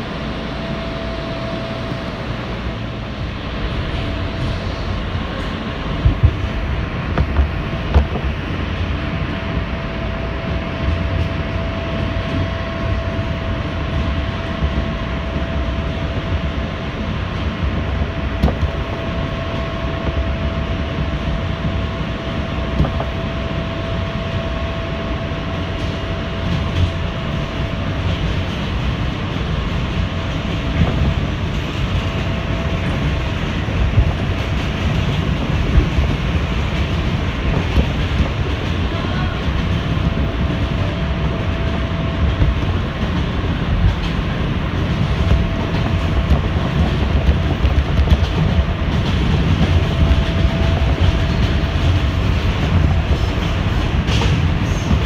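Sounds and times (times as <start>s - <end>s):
steady whine: 0.0s - 55.0s
train wheels rumbling on rails: 0.0s - 55.0s.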